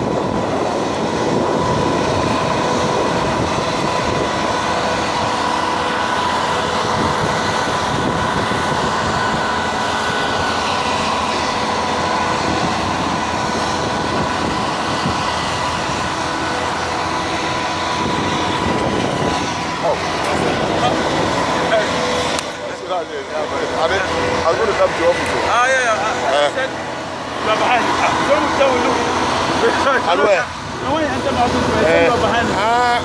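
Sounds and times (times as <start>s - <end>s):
heavy machinery drone: 0.0s - 33.0s
high steady whine: 0.0s - 33.0s.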